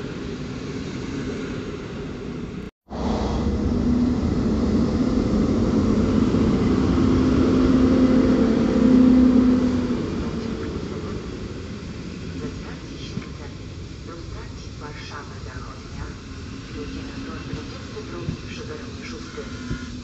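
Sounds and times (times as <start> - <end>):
electric locomotive humming: 0.0 - 20.0
passenger coaches rolling past: 0.0 - 20.0.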